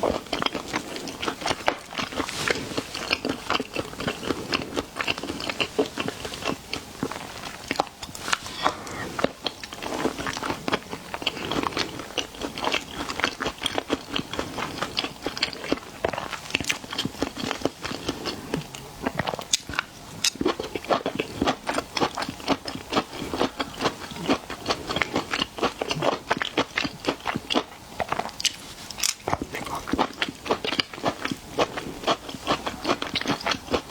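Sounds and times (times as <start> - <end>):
chewing and biting seafood: 0.0 - 33.9.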